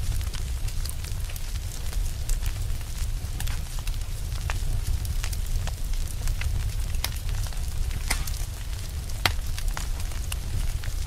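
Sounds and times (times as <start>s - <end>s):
fire popping and crackling: 0.0s - 11.0s
low rumble of flame: 0.0s - 11.0s.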